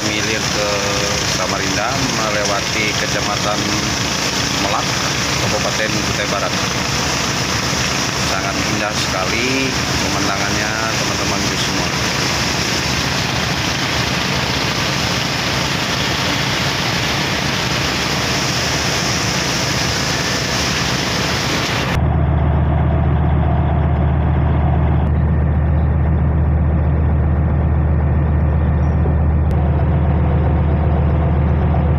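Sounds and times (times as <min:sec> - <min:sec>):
boat engine drone: 0:00.0 - 0:31.9.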